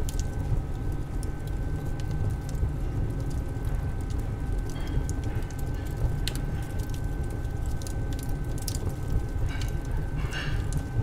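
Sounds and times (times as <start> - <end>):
light crackles and clicks: 0.0 - 11.0.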